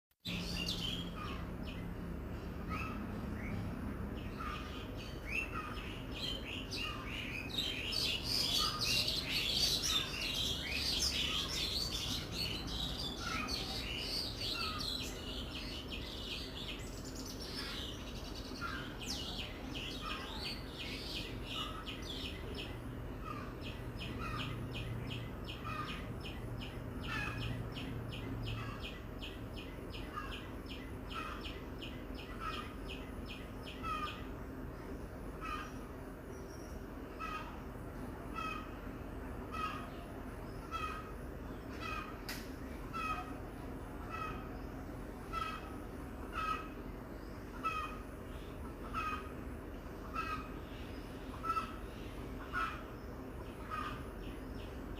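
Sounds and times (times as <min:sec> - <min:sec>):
birds twittering: 0:00.2 - 0:54.9.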